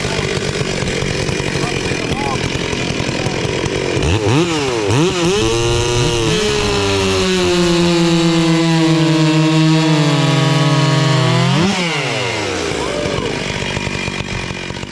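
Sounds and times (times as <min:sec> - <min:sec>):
chainsaw revving: 0:00.0 - 0:14.9.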